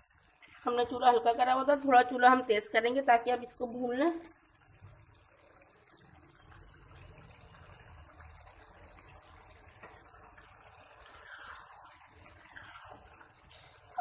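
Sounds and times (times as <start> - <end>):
curry bubbling in a pot: 0.0 - 14.0.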